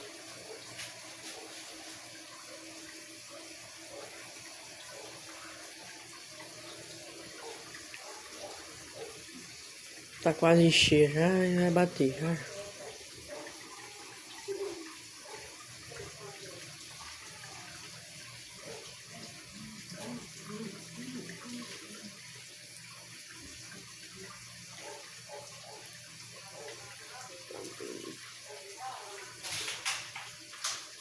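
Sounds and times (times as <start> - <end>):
water pouring into washing machine: 0.0 - 31.0.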